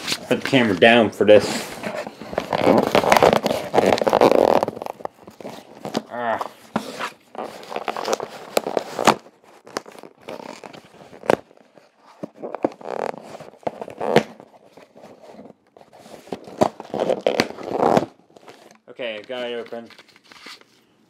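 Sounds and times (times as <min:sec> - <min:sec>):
cardboard tearing and scraping: 0:00.0 - 0:18.8.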